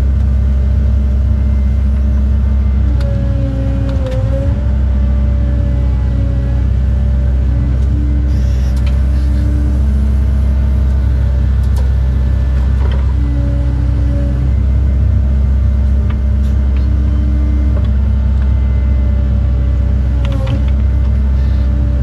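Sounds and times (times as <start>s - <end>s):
excavator diesel engine running: 0.0s - 22.0s
hydraulic whine: 1.2s - 22.0s.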